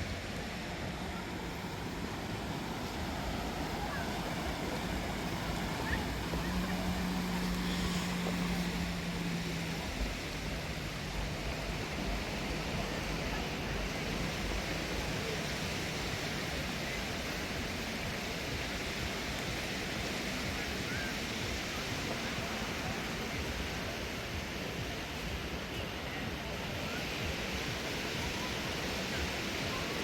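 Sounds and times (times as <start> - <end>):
surf washing onto beach: 0.0 - 30.0.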